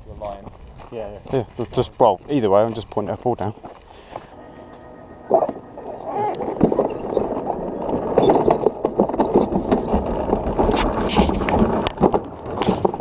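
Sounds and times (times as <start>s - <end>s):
cart wheels rattling on track: 0.1s - 13.0s.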